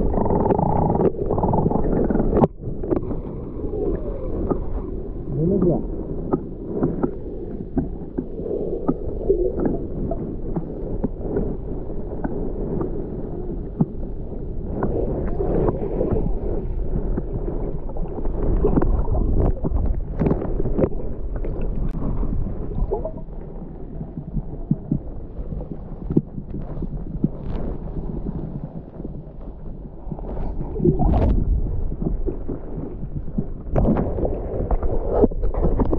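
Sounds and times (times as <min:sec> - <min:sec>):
muffled underwater water rumble: 0:00.0 - 0:35.9
sharp underwater clicks and crackles: 0:00.0 - 0:35.9.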